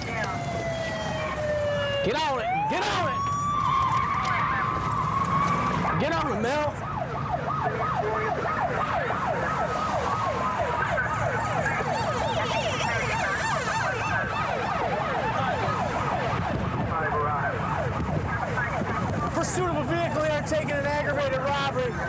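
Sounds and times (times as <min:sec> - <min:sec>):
police siren yelping: 0:00.0 - 0:22.0
road noise: 0:00.0 - 0:22.0.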